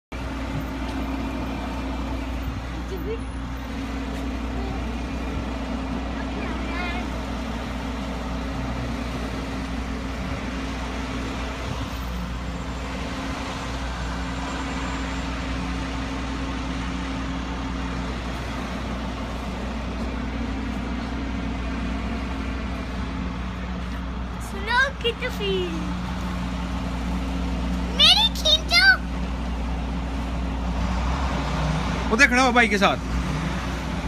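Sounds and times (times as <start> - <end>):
vehicle engine droning: 0.1 - 34.0.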